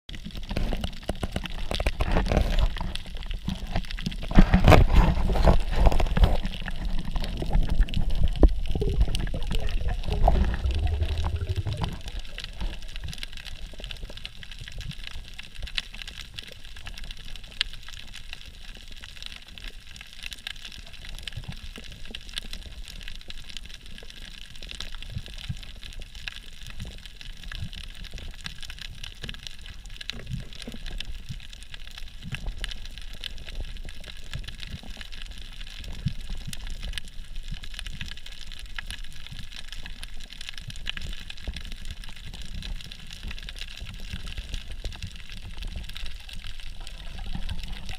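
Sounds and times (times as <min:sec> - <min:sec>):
crackle of tiny clicks: 0:00.1 - 0:47.9
underwater rushing and bubbling water: 0:00.1 - 0:47.9.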